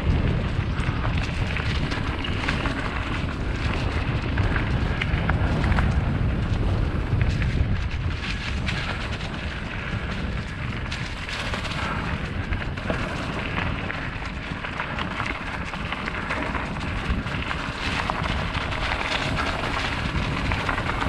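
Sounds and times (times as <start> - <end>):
small clicks and rattles: 0.0 - 21.0
tyres rolling over dirt trail: 0.0 - 21.0
wind buffeting microphone: 0.0 - 21.0.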